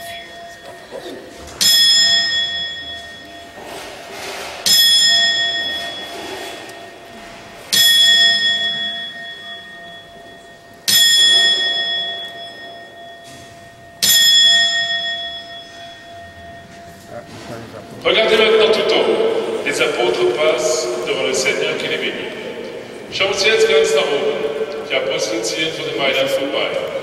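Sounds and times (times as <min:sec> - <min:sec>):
clock bell striking: 0:00.0 - 0:27.0.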